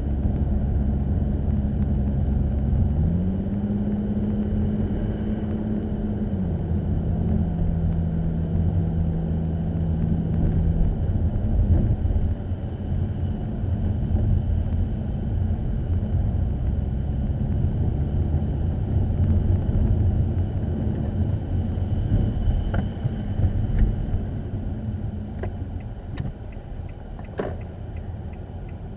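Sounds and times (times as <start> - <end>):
vehicle road and engine rumble: 0.0 - 28.9.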